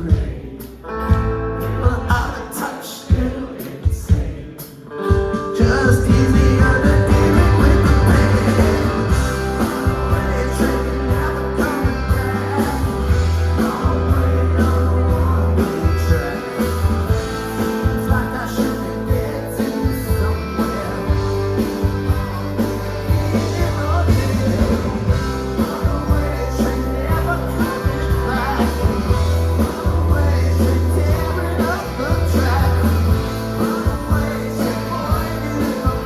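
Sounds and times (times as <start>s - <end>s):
bass guitar: 0.0s - 2.4s, 5.1s - 36.0s
drums: 0.0s - 36.0s
electric guitars: 0.8s - 2.4s, 4.8s - 36.0s
person singing: 1.6s - 36.0s.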